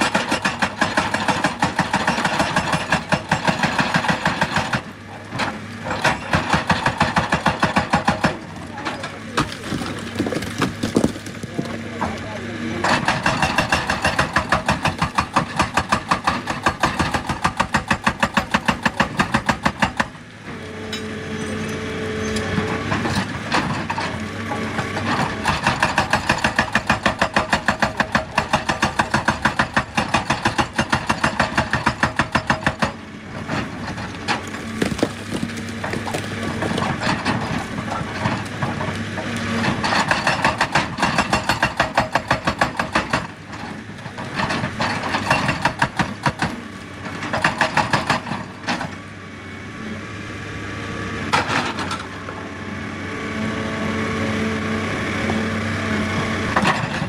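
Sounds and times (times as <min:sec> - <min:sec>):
hydraulic breaker hammering rock: 0:00.0 - 0:20.2, 0:20.9 - 0:49.0, 0:56.0 - 0:57.0
diesel engine running: 0:00.0 - 0:57.0.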